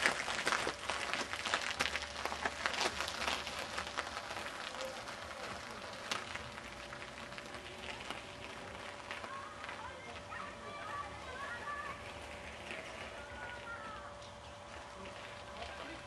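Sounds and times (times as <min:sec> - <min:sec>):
bicycle tyres crunching on gravel: 0:00.0 - 0:16.0.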